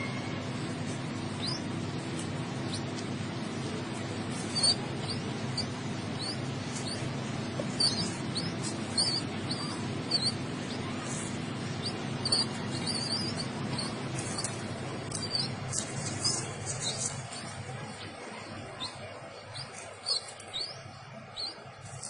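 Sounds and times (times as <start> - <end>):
pigeon chick squeaky peeps: 0.0 - 22.0
steady low hum: 0.0 - 22.0.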